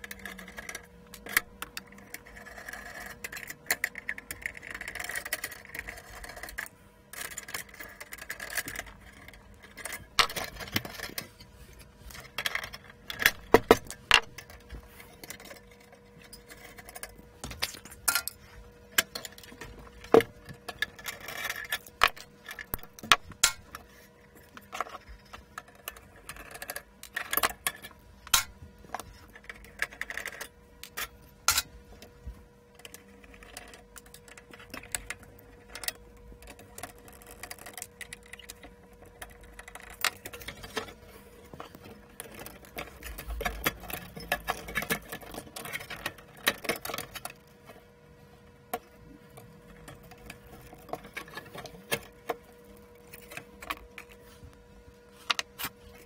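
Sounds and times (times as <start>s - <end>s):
tools and parts clicking and scraping: 0.0s - 47.9s, 48.6s - 56.0s
faint steady hum: 0.0s - 56.0s.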